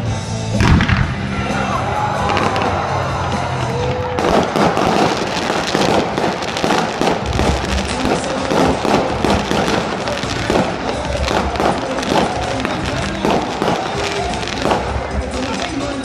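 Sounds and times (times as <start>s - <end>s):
deep fireworks booms: 0.6s - 1.6s, 2.2s - 15.9s
fireworks crackling and popping: 0.6s - 1.6s, 2.2s - 16.0s.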